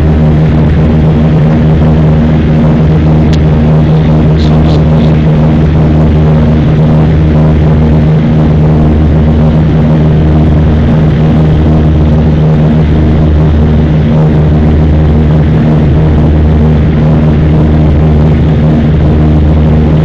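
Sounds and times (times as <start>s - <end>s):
airplane engine drone in cabin: 0.0s - 20.0s.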